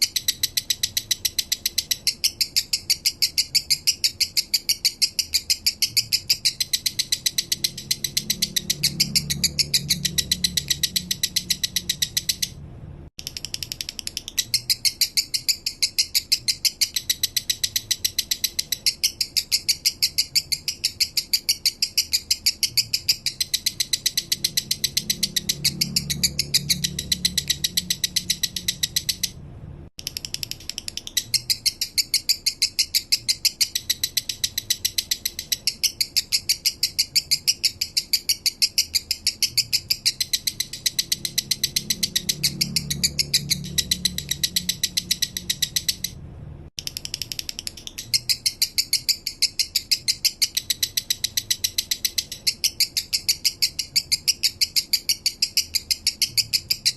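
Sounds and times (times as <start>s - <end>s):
lovebird chattering chirps: 0.0s - 12.6s, 13.2s - 29.4s, 30.0s - 46.2s, 46.8s - 56.9s.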